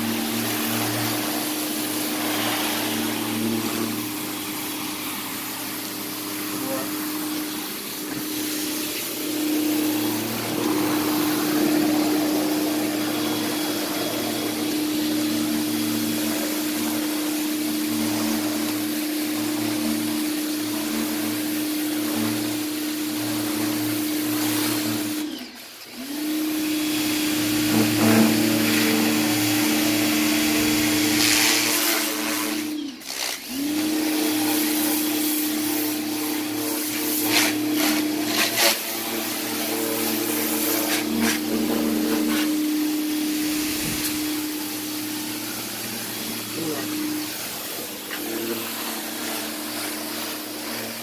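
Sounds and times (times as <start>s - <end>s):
spray hissing: 0.0s - 25.8s, 34.1s - 51.0s
pressure washer motor hum: 0.0s - 51.0s.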